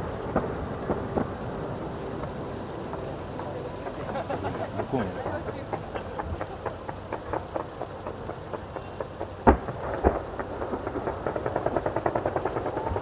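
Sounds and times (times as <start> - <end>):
fireworks popping and crackling: 0.0 - 13.0
loud firework bangs: 0.0 - 13.0.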